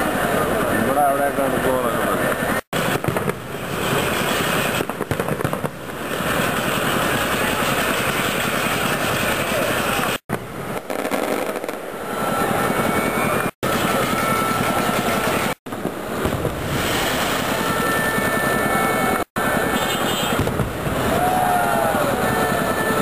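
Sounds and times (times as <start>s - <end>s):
fireworks crackling bangs: 2.3s - 23.0s.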